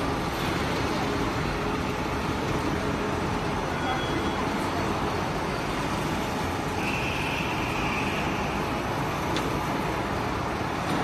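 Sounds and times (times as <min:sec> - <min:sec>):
workshop machinery running: 0:00.0 - 0:11.0.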